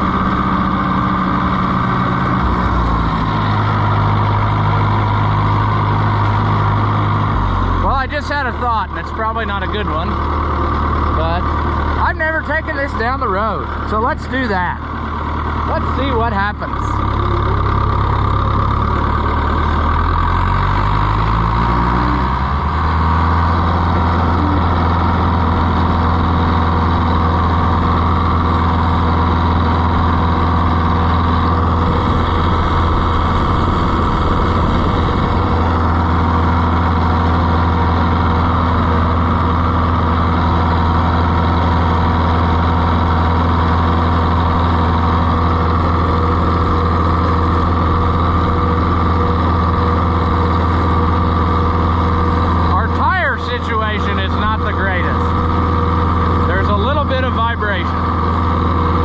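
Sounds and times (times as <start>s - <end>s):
tractor engine pulling away: 0.0s - 59.0s.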